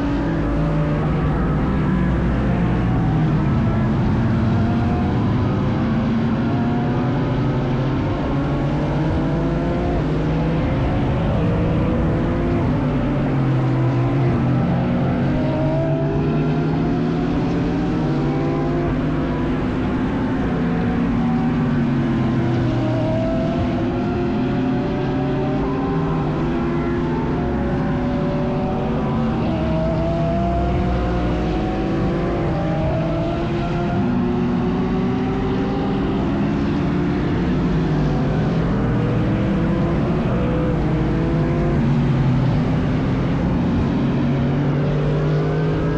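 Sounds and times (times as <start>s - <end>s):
race car engines revving: 0.0s - 45.9s.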